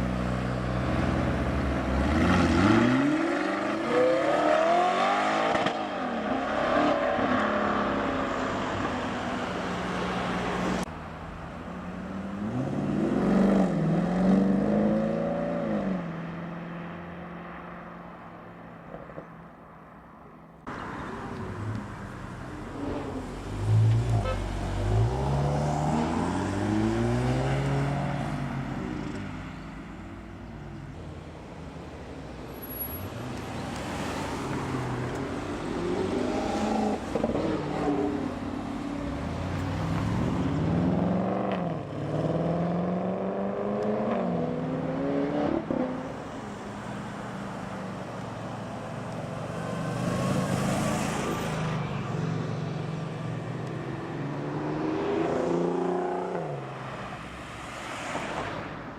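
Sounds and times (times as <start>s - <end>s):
car engines revving: 0.0s - 19.3s, 20.6s - 58.9s.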